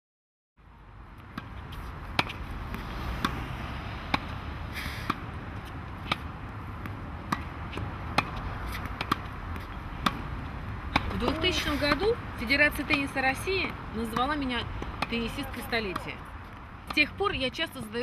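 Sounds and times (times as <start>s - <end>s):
steady outdoor rumble: 0.6s - 18.0s
tennis balls being struck: 1.2s - 18.0s.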